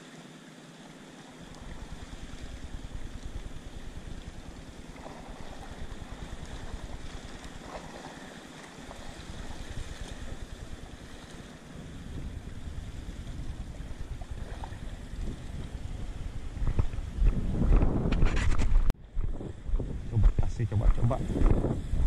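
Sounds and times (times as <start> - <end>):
wind buffeting microphone: 1.7 - 8.0, 8.9 - 22.0.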